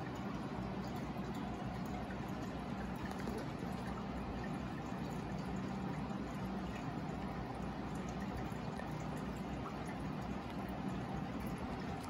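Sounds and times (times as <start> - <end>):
aquarium water circulating: 0.0 - 12.0
pump low hum: 0.0 - 12.0.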